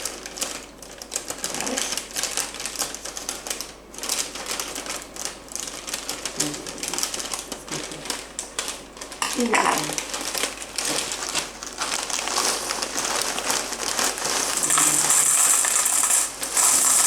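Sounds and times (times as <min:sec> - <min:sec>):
cornflakes crackling and rattling: 0:00.0 - 0:17.0.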